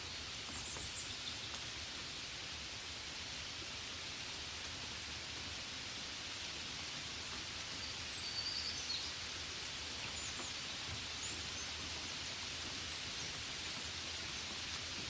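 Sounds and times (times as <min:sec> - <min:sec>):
gentle rain: 0:00.0 - 0:15.0.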